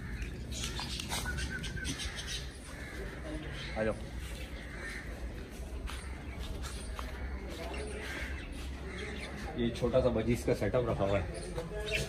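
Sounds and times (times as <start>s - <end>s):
faint bird calls: 0.0s - 9.8s.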